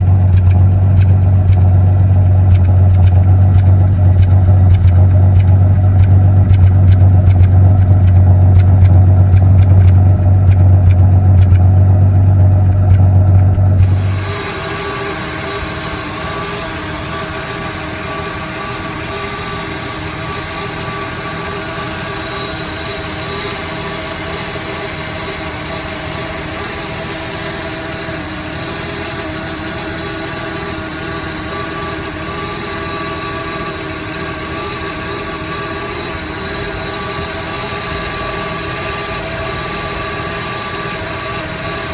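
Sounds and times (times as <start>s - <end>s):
car engine misfiring: 0.0s - 41.9s.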